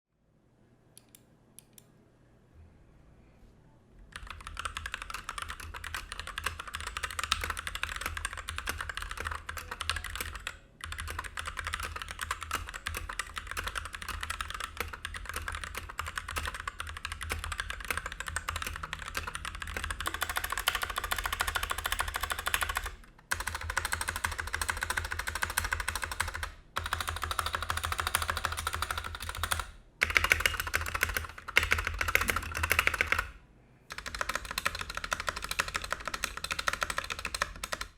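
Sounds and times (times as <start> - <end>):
mechanical keyboard typing: 4.0 - 37.9.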